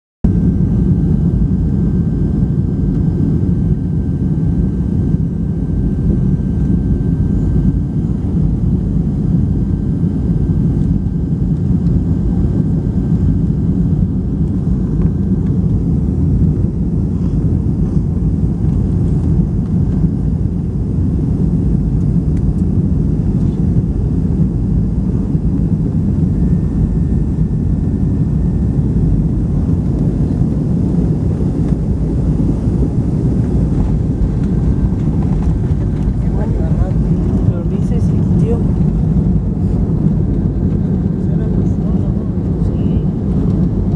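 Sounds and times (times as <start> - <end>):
airplane cabin engine rumble: 0.2 - 43.9.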